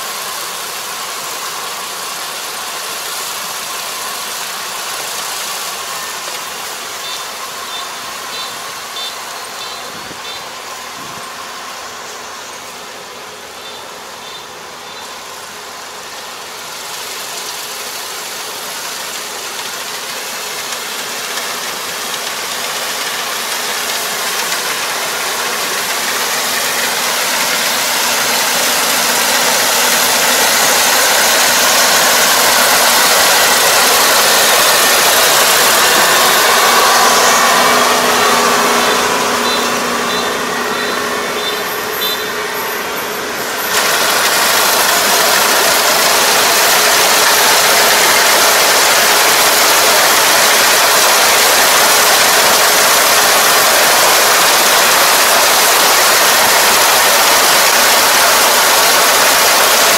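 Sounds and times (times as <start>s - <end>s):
farm machine engine running: 0.0s - 59.9s.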